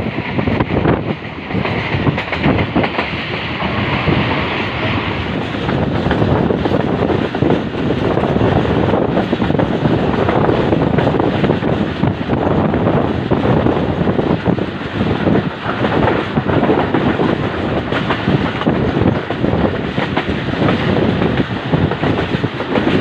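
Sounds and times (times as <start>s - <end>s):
train coaches rumbling: 0.0s - 23.0s.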